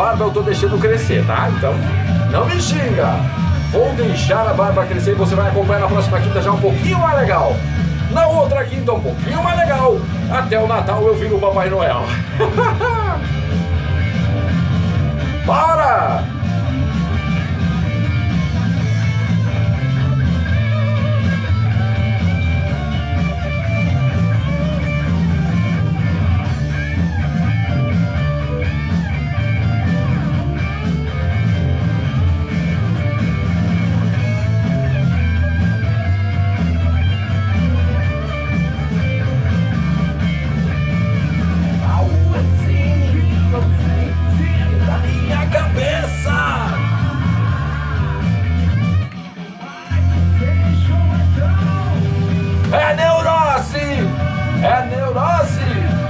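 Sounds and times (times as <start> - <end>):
bass guitar: 0.0 - 56.0
electric guitar: 0.0 - 56.0.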